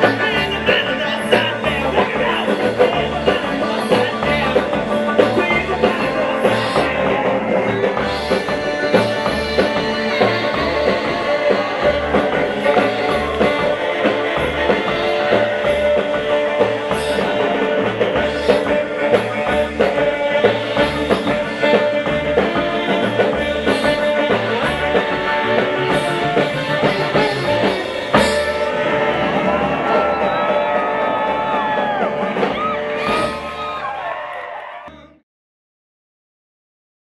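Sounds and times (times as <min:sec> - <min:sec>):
live rock and roll band: 0:00.0 - 0:35.1.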